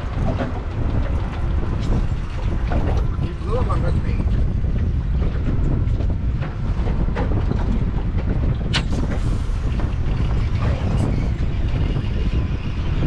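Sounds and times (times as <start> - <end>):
knocks and slaps on boat: 0.0 - 13.0
wind buffeting microphone: 0.0 - 13.0.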